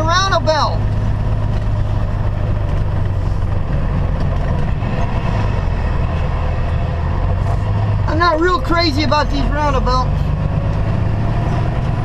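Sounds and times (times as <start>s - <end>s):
road noise: 0.0s - 12.0s
truck diesel engine drone: 0.0s - 12.0s.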